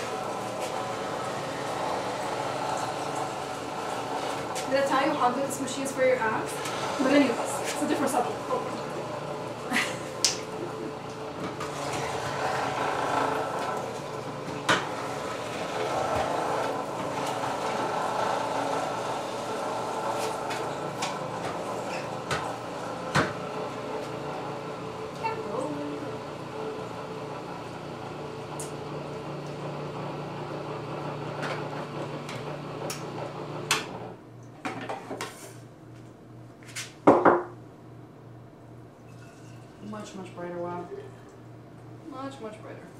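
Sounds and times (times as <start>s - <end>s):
low motor hum: 0.0s - 34.5s
hand-crank juicer grinding: 0.0s - 35.6s.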